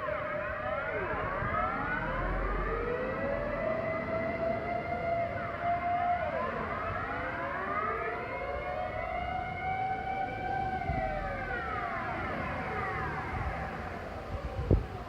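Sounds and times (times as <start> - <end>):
air raid sirens wailing: 0.0 - 15.0.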